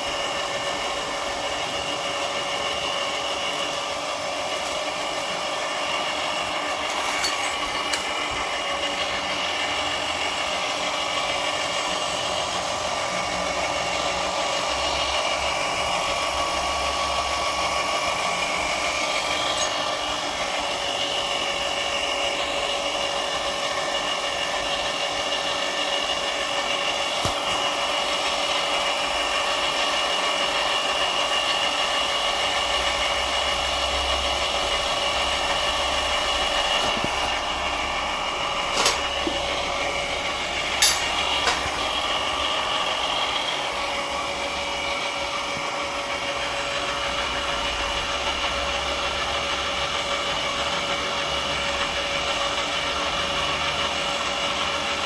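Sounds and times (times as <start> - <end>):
motor humming with whine: 0.0 - 55.0.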